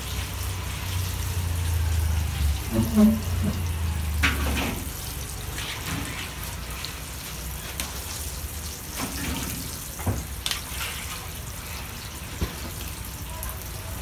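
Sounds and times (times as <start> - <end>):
deep-frying oil sizzling: 0.0 - 14.0.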